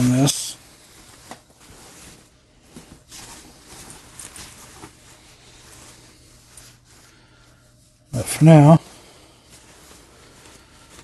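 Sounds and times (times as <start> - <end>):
synthetic fabric rustling: 0.0 - 11.0.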